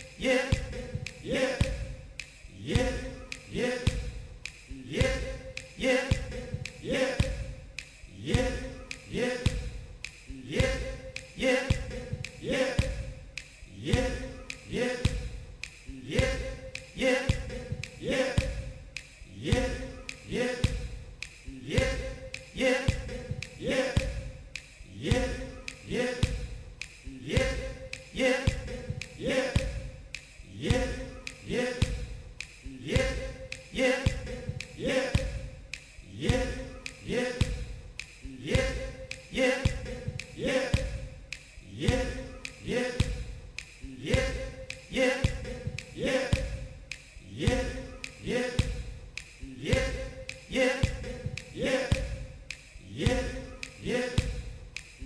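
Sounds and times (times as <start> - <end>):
man singing a short word: 0.0 - 9.7, 10.3 - 55.0.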